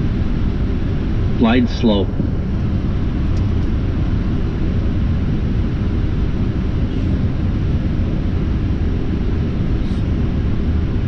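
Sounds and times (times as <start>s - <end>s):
airflow and engine noise: 0.0s - 11.0s.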